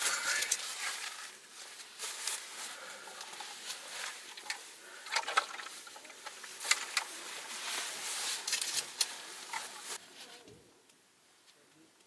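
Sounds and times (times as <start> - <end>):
rustling: 0.0 - 10.7.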